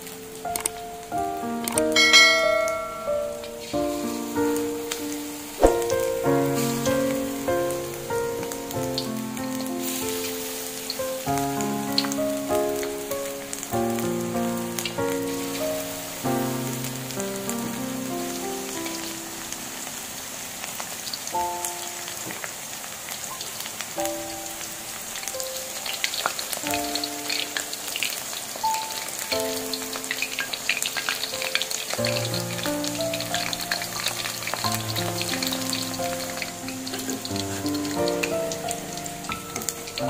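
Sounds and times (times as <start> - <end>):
background music with held notes: 0.0 - 22.4, 24.0 - 40.0
chicken deep-frying in oil: 0.0 - 40.0.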